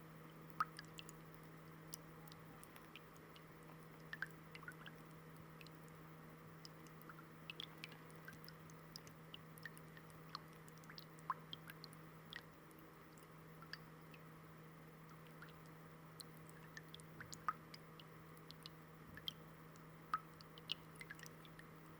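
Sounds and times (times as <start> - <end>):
fountain water trickling: 0.5 - 5.9, 6.6 - 14.2, 15.1 - 21.7.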